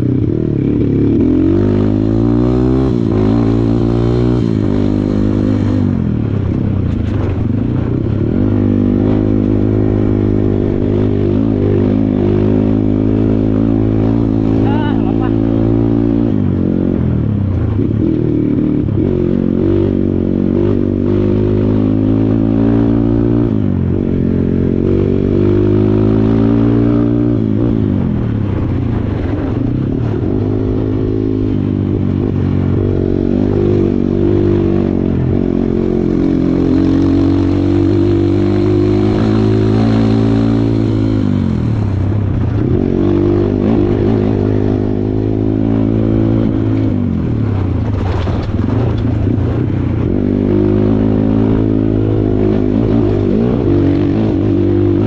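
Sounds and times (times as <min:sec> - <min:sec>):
dirt bike engine revving: 0:00.0 - 0:06.4, 0:07.1 - 0:17.0, 0:17.6 - 0:55.0.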